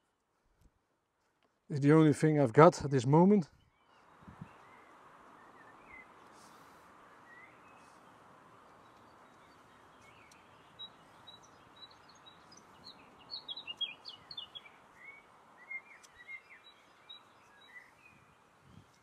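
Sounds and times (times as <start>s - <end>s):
faint outdoor hiss: 0.0s - 19.0s
songbird chirping and trilling: 2.8s - 19.0s.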